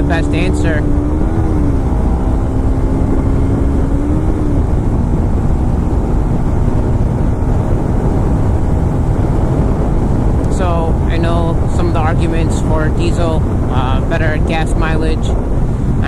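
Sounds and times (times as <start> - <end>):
motorcycle engine droning: 0.0 - 16.0
wind and road noise rumble: 0.0 - 16.0.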